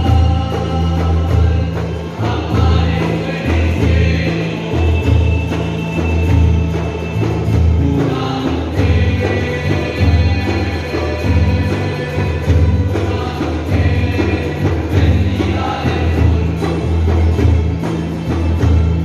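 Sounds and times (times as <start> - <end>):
choir singing over pulsing bass: 0.0 - 19.0.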